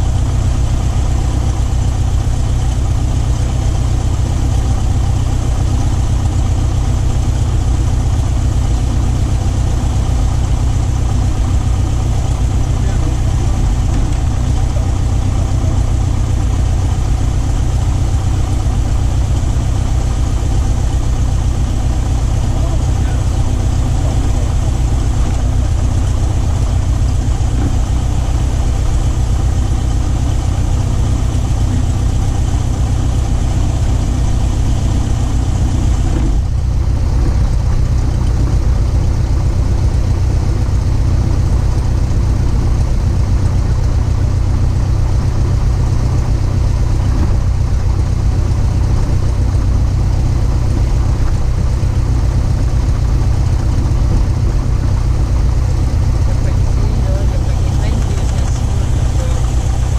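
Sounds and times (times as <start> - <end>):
light airplane engine drone: 0.0 - 59.9.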